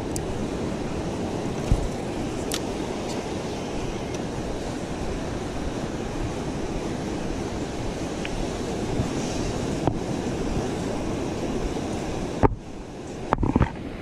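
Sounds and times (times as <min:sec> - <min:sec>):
surf breaking on a beach: 0:00.0 - 0:14.0
wind on the microphone: 0:00.0 - 0:14.0.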